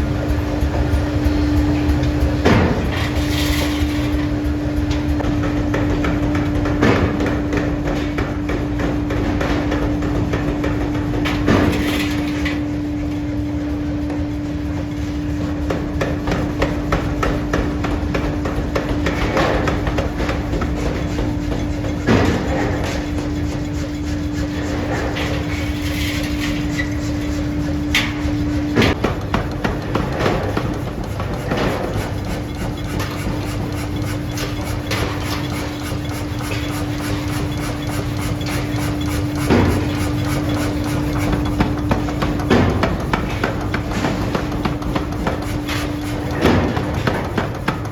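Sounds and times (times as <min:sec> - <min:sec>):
machinery humming: 0:00.0 - 0:47.9
metal knocks and clanks: 0:00.0 - 0:47.9.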